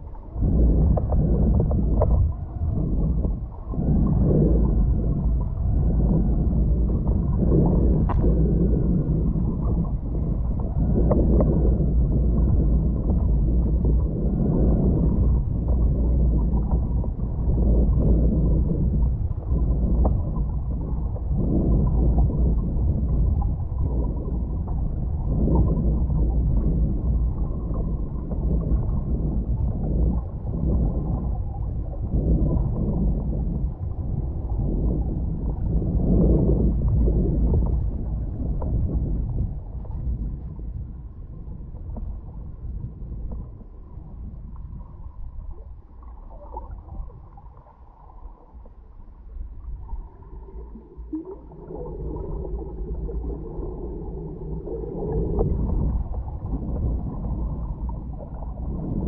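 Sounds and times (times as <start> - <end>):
muffled underwater water rushing: 0.0 - 59.0.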